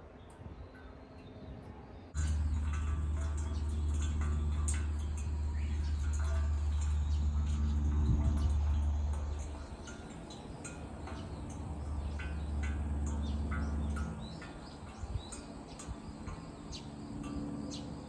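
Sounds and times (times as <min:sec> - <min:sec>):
low hum: 0:01.8 - 0:18.0
water drops ringing in pot: 0:02.2 - 0:18.0.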